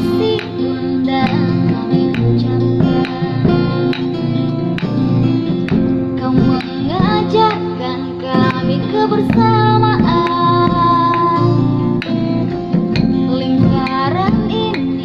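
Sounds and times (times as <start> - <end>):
acoustic guitar: 0.0 - 15.0
light percussion: 0.0 - 15.0
person singing: 0.0 - 15.0.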